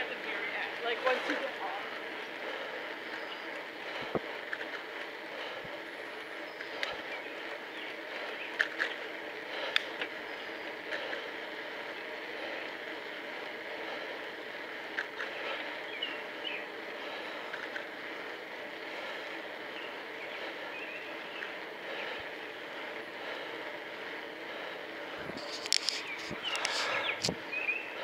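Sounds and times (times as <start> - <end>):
bicycle tyres on road: 0.0 - 28.0
bike clicks and rattles: 0.0 - 28.0.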